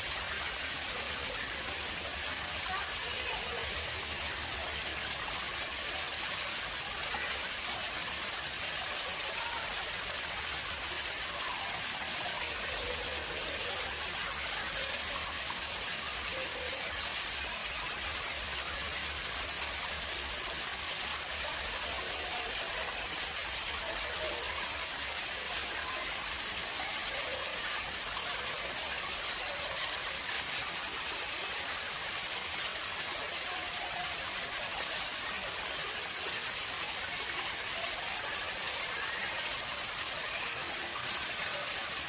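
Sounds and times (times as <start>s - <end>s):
water flowing into pond: 0.0s - 42.0s.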